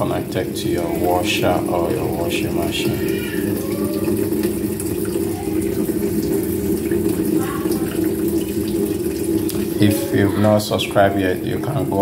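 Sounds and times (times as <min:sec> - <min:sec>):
water running from tap: 0:00.0 - 0:12.0.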